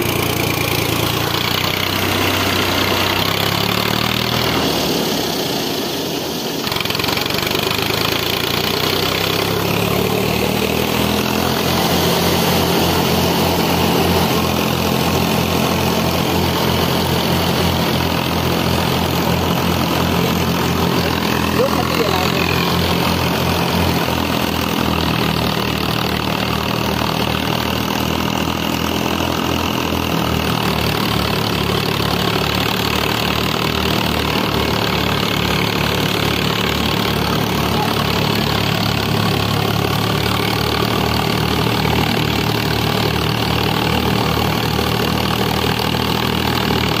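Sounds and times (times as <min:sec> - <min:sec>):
thresher drum running: 0:00.0 - 0:47.0
tractor diesel engine running: 0:00.0 - 0:47.0.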